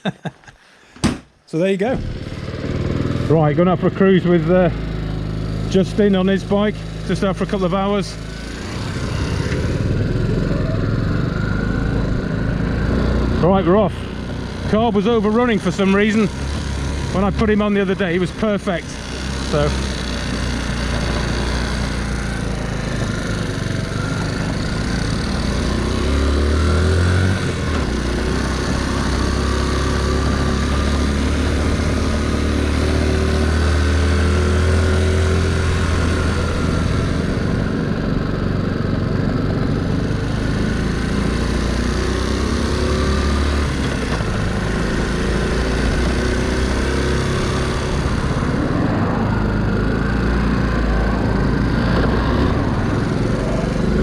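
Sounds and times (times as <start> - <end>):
motorcycle engine running: 1.8 - 54.0.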